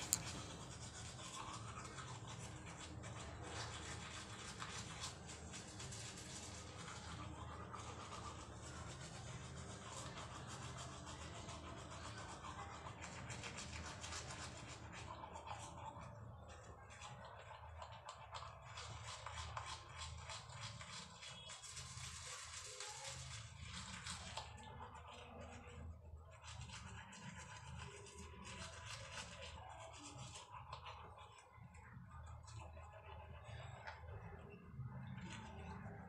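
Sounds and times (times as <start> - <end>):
toothbrush scrubbing teeth: 0.0 - 36.0.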